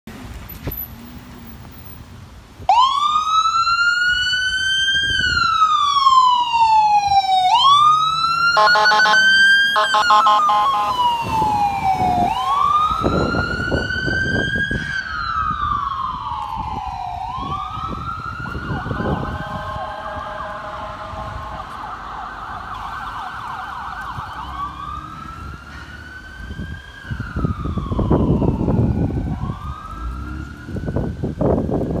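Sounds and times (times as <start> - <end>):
traffic rumble: 0.1 - 32.0
second siren: 2.7 - 31.4
ambulance siren wailing: 2.7 - 31.9.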